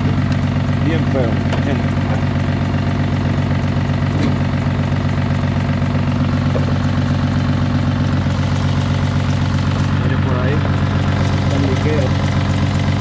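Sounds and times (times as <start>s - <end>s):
misfiring car engine idling: 0.0s - 13.0s.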